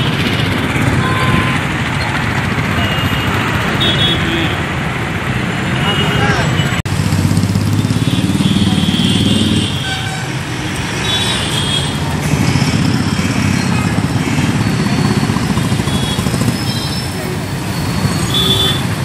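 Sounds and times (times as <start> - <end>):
traffic engines rumbling: 0.0 - 19.0.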